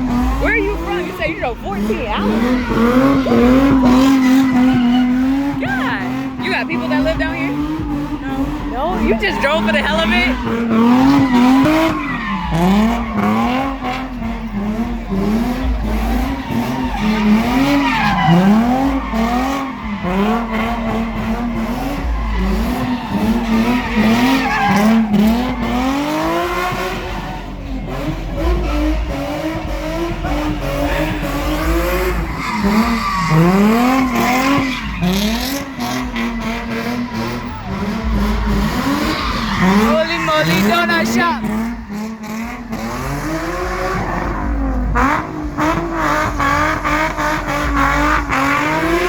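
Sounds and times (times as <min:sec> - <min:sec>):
car engine revving: 0:00.0 - 0:49.0
tyres squealing on pavement: 0:00.0 - 0:49.0.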